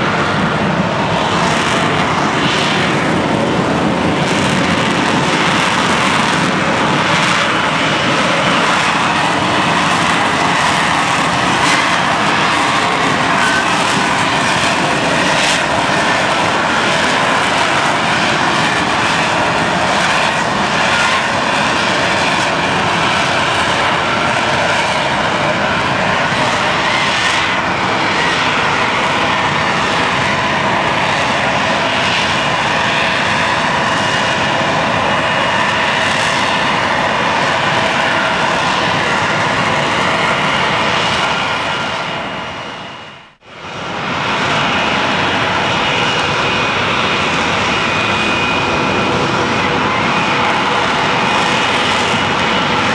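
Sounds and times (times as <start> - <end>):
jet engine roar: 0.0 - 52.9.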